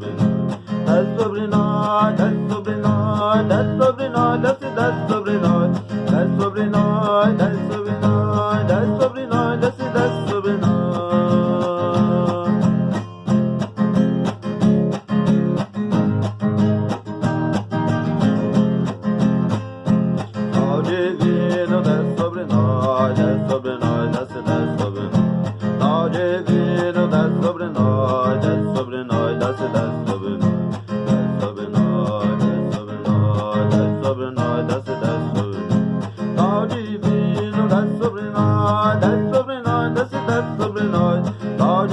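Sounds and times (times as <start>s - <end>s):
person singing: 0.0s - 13.2s, 20.2s - 41.9s
acoustic guitar strumming: 0.0s - 41.9s.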